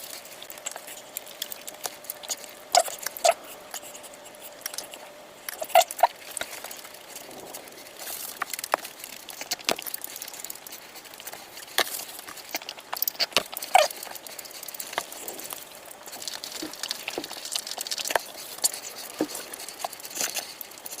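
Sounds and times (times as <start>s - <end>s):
chewing and mouth smacks: 0.0s - 21.0s
clicks and crackles: 0.0s - 21.0s.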